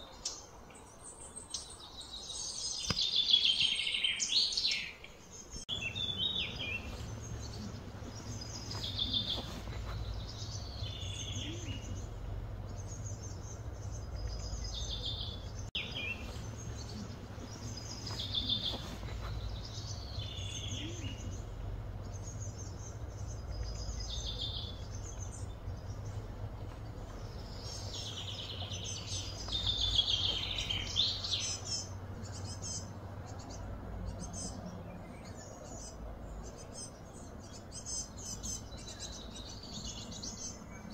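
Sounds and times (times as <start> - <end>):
bird calling: 1.4 - 40.9
low background hum: 5.1 - 40.9.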